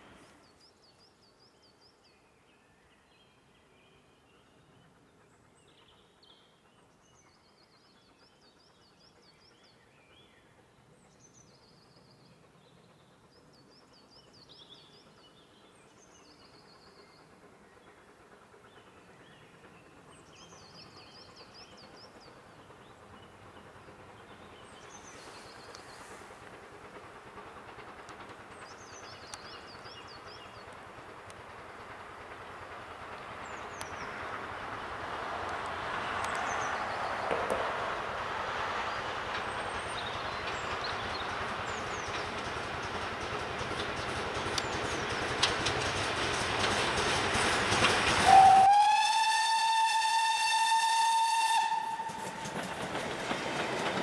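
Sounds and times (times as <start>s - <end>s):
steam train rumbling: 0.0s - 54.0s.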